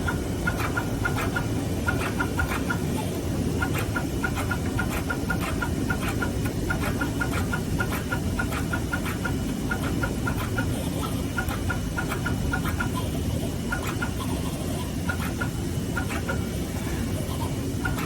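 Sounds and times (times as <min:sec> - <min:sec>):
machinery rumbling: 0:00.0 - 0:18.0.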